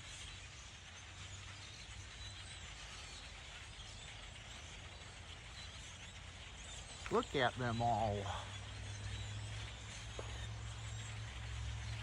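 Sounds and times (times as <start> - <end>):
flock of birds chattering: 0.0 - 12.0.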